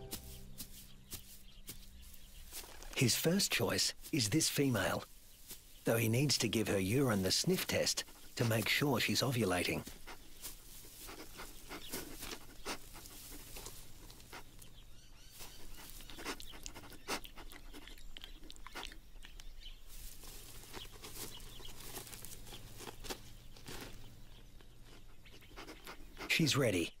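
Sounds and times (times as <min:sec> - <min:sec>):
kangaroo sniffing: 0:00.2 - 0:26.5.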